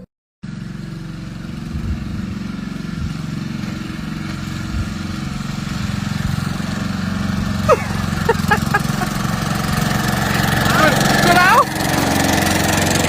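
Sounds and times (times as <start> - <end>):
engine running steadily: 0.4 - 13.0.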